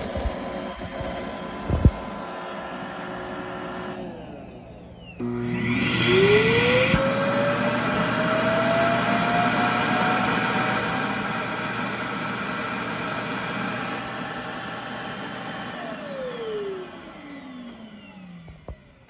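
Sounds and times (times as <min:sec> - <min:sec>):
suction motor whining: 0:00.0 - 0:19.0.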